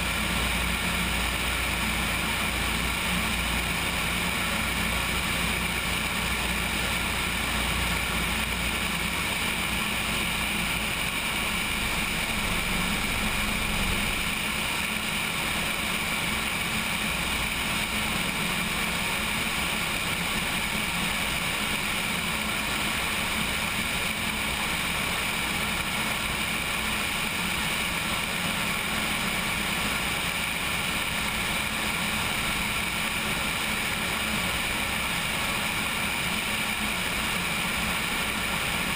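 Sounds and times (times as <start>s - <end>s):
plane engine and propeller drone: 0.0s - 38.9s.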